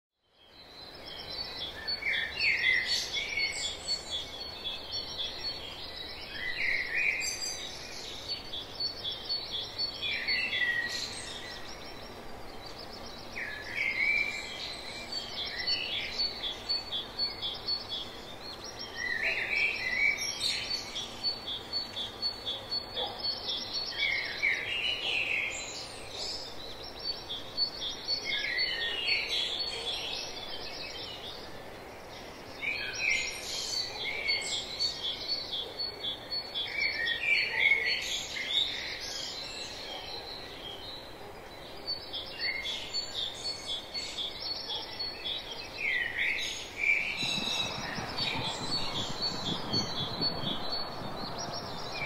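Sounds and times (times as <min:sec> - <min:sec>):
bird song phrase: 0:00.2 - 0:52.0.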